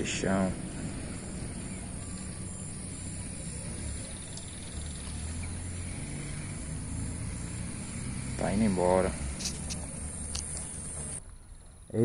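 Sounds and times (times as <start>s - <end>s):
low steady rumble: 0.0s - 11.4s
faint insect chirping: 0.0s - 12.0s.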